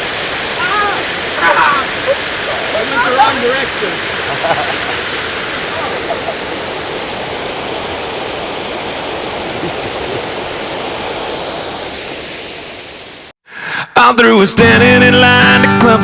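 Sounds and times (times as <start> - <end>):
waterfall roaring: 0.0 - 13.9.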